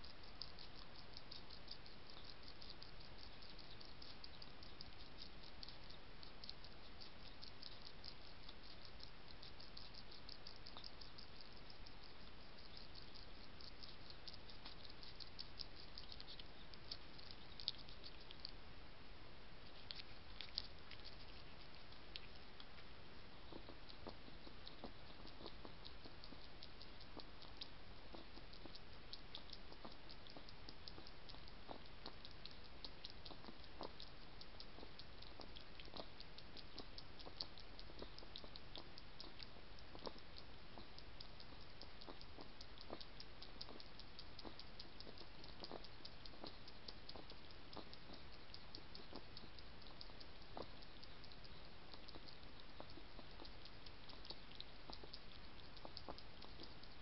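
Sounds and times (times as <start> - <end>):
hedgehog mouth clicks and smacks: 0.0 - 18.7, 19.6 - 57.0
steady hiss: 0.0 - 57.0.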